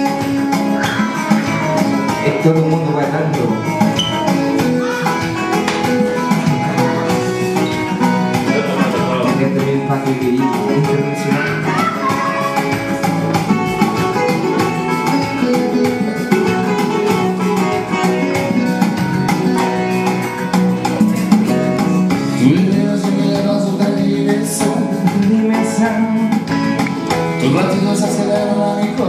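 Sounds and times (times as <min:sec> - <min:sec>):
latin pop on electronic keyboard: 0:00.0 - 0:29.0.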